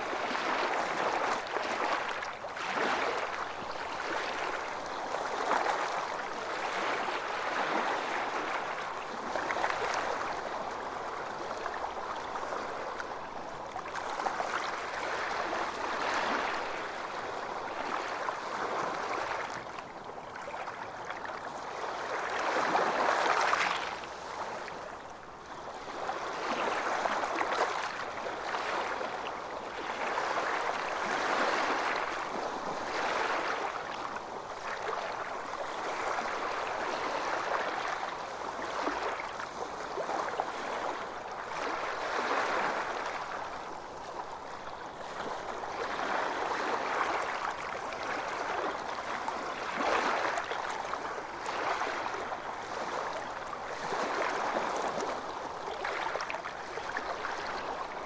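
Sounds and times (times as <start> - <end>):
calm waves lapping: 0.0 - 58.0.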